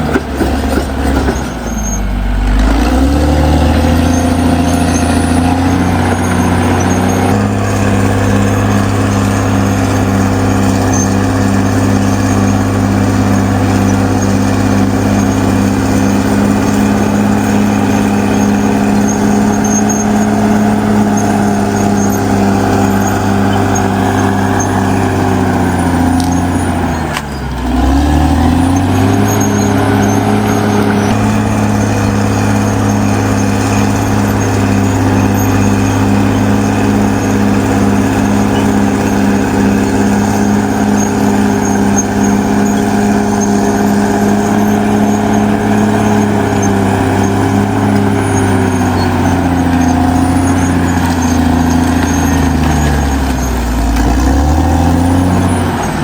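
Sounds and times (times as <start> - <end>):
bulldozer diesel engine at high revs: 0.0 - 56.0.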